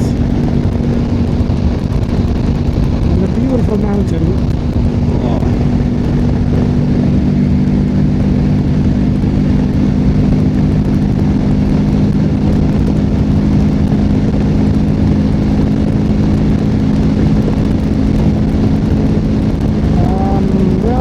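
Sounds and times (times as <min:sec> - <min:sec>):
motorcycle engine running: 0:00.0 - 0:21.0
wind over microphone: 0:00.0 - 0:21.0.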